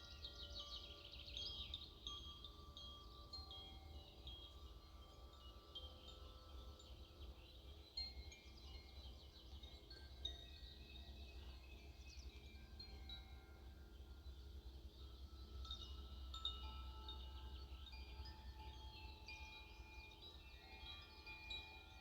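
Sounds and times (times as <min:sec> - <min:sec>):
faint wind chimes ringing: 0:00.0 - 0:22.0.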